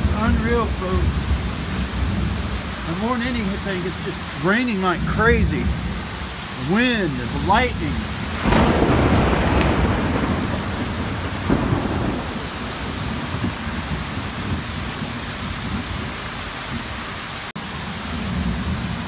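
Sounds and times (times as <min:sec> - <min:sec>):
low thunder rumble: 0:00.0 - 0:17.0
heavy rain hissing: 0:00.0 - 0:19.0.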